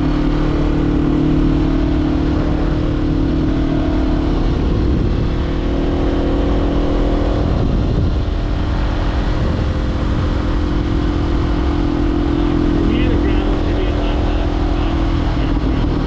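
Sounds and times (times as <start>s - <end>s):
motorcycle engine riding: 0.0s - 16.0s
wind rushing over microphone: 0.0s - 16.0s.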